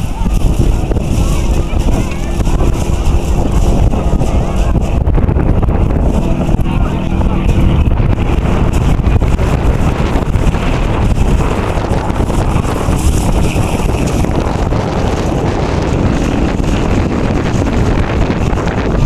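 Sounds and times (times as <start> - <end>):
distant propeller plane drone: 0.0 - 19.0
wind buffeting microphone: 0.0 - 19.0.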